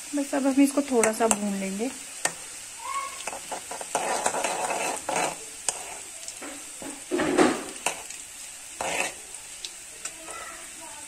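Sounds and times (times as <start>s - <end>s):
garlic sizzling in hot oil: 0.0s - 11.0s.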